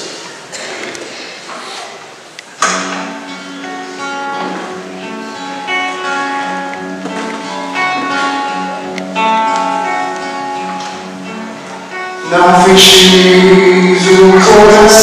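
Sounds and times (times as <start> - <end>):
acoustic guitar playing: 2.6 - 15.0.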